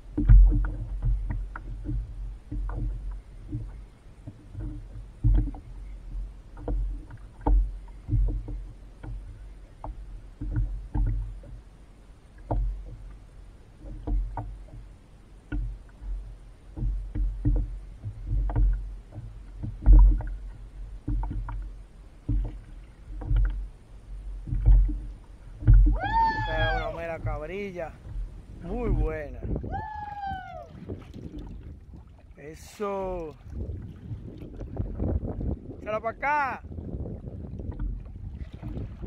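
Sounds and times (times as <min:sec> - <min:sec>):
water sloshing against kayak hull: 0:00.0 - 0:39.0.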